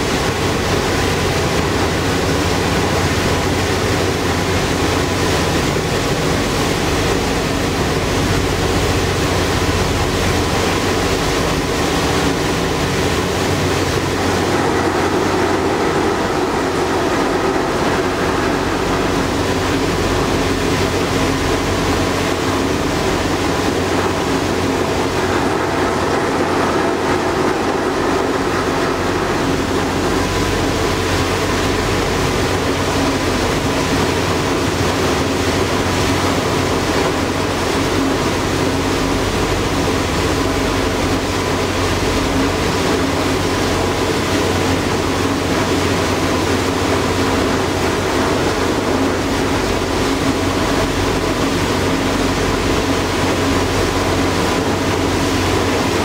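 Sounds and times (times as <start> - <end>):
ferry engine hum: 0.0 - 56.0
water rushing along hull: 0.0 - 56.0.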